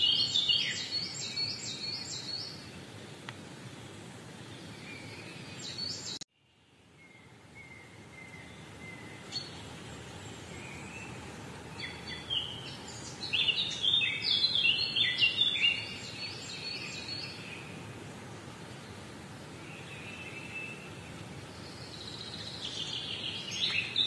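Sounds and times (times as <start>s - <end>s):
birds chirping and singing: 0.0s - 2.8s, 4.5s - 6.2s, 7.0s - 17.9s, 19.5s - 24.0s
steady background hiss: 0.0s - 24.0s.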